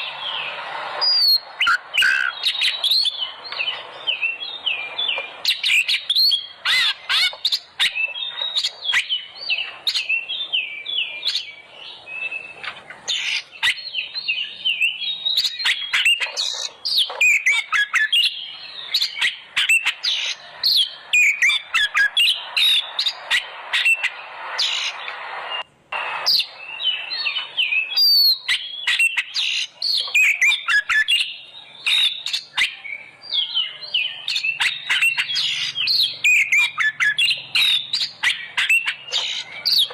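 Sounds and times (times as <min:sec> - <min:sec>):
songbird singing rapid chirps: 0:00.0 - 0:39.9.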